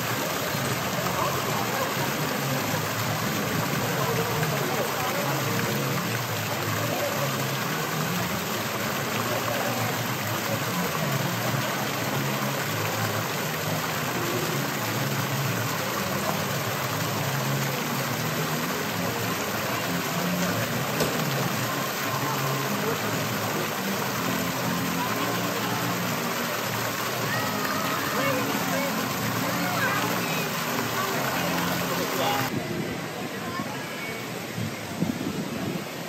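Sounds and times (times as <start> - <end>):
murmur of passing voices: 0.0 - 36.0.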